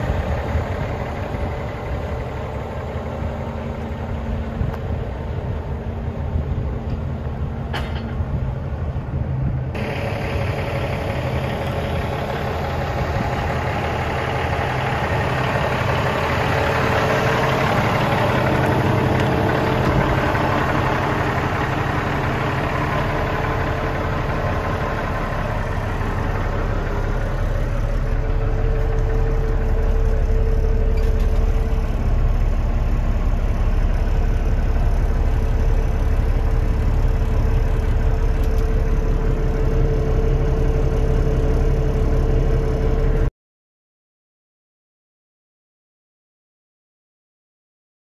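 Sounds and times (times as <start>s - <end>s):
diesel truck engine idling: 0.0s - 43.3s.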